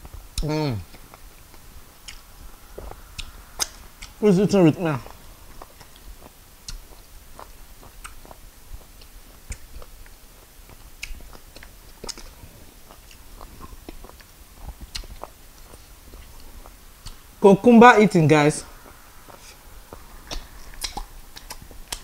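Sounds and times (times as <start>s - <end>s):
chewing and mouth smacks: 0.0s - 4.2s, 5.0s - 17.3s, 18.7s - 22.0s.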